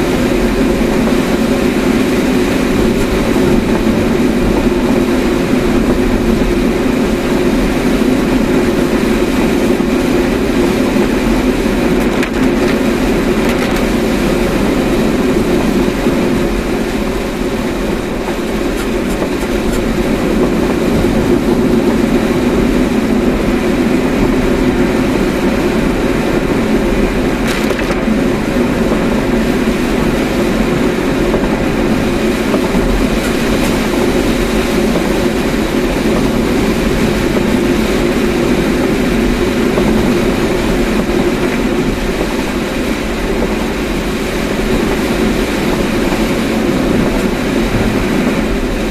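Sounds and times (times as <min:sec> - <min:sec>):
car road and engine drone: 0:00.0 - 0:48.9.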